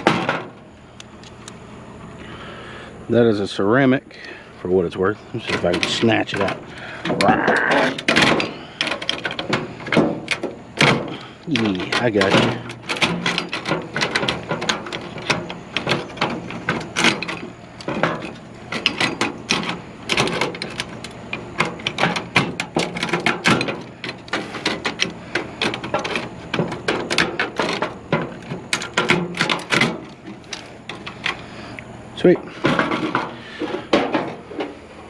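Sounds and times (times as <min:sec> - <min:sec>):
scrap parts and tools clattering: 0:00.0 - 0:00.7, 0:05.3 - 0:31.6, 0:32.3 - 0:35.0.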